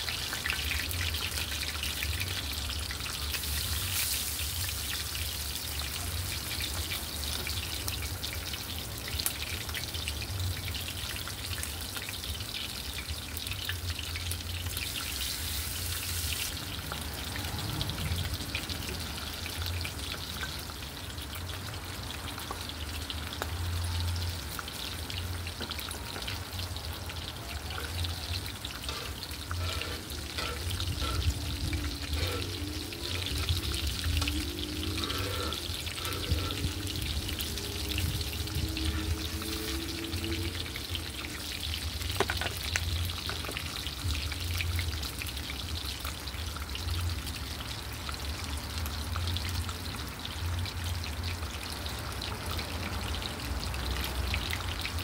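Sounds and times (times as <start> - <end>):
oil sizzling in a skillet: 0.0 - 55.0.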